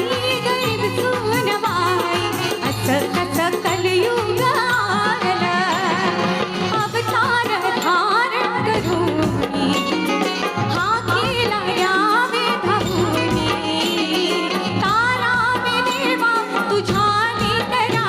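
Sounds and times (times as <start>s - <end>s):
rhythmic drum beats: 0.0s - 18.0s.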